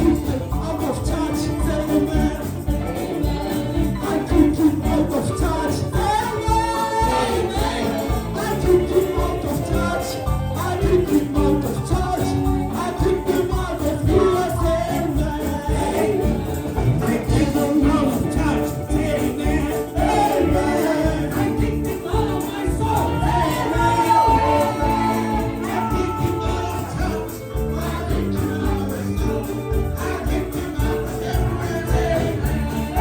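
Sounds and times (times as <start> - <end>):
choir singing gospel song: 0.0 - 33.0
steady drum beat: 0.0 - 33.0.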